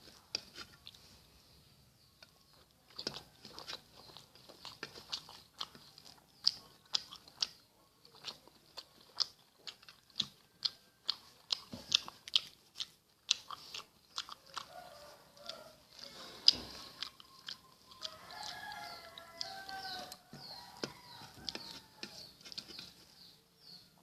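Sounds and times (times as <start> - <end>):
close chewing with wet mouth smacks: 2.3 - 23.3.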